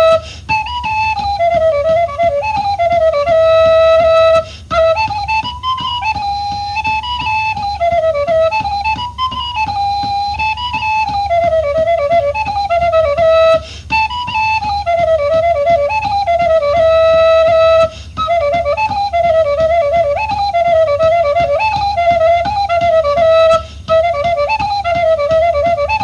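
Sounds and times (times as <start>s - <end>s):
flute folk-dance melody: 0.0s - 26.0s
low rhythmic pulse: 0.0s - 26.0s.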